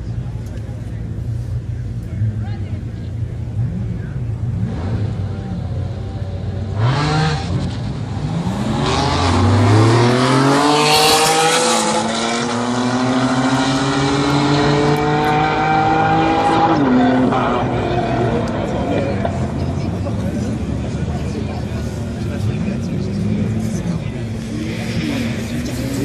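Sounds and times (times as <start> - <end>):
car engines accelerating: 0.0 - 26.0.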